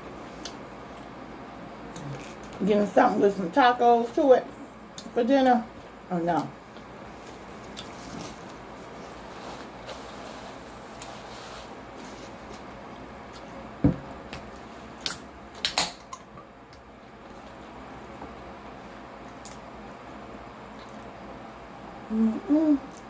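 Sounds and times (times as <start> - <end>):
low room hiss: 0.0 - 23.0.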